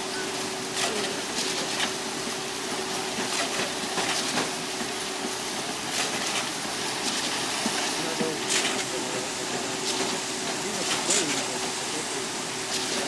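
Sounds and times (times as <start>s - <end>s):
concrete pump running: 0.0s - 13.0s.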